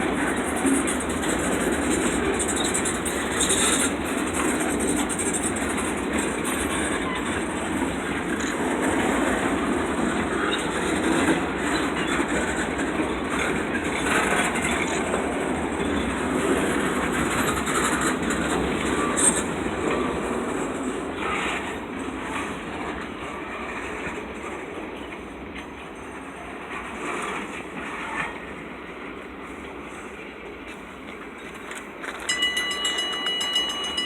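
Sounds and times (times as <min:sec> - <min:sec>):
freight train wheels clacking: 0:00.0 - 0:28.6, 0:30.6 - 0:34.0.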